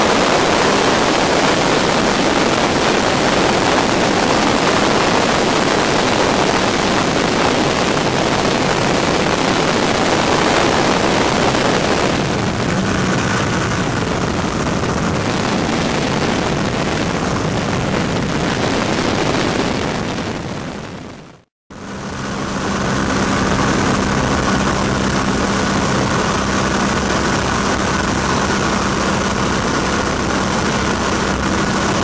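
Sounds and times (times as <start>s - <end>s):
aircraft engine drone: 0.0s - 21.0s, 21.7s - 32.0s
wind rushing over microphone: 0.0s - 32.0s.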